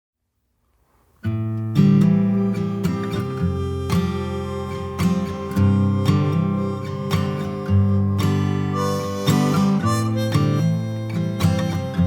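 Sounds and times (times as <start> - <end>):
acoustic guitar strumming chords: 1.3 - 12.0.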